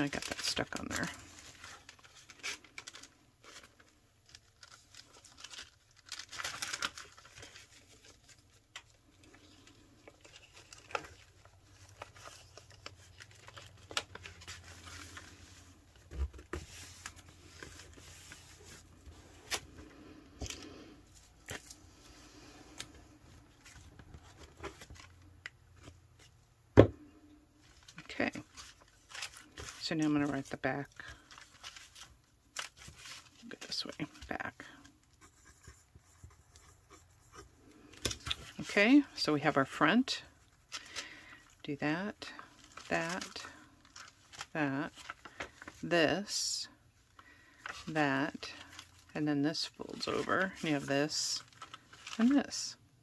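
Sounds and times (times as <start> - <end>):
paper envelopes rustling: 0.0 - 26.4, 27.6 - 41.6, 42.2 - 46.4, 47.0 - 52.6.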